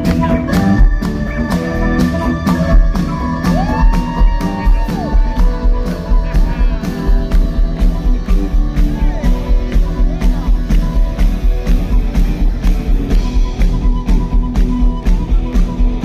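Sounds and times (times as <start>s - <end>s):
bass: 0.0s - 16.0s
drumbeat: 0.0s - 16.0s
electric guitar: 0.0s - 16.0s
flute playing: 0.0s - 16.0s
keyboards: 0.0s - 16.0s.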